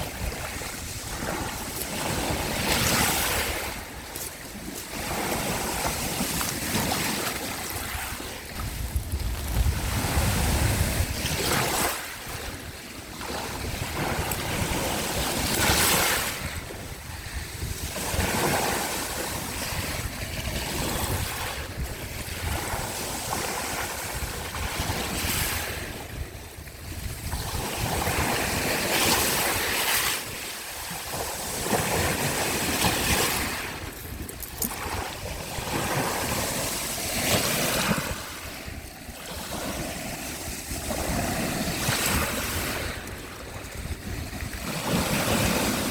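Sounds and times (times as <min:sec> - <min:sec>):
small waves washing onto shore: 0:00.0 - 0:45.9
wind buffeting microphone: 0:00.0 - 0:45.9.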